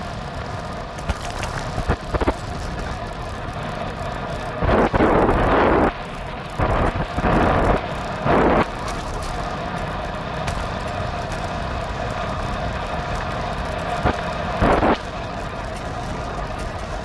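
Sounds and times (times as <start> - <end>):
rumbling road noise: 0.0 - 17.0.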